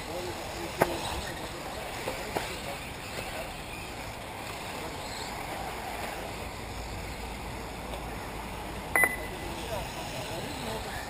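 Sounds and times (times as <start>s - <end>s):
motor whines: 0.0s - 11.0s
rc cars whirring: 0.0s - 11.0s.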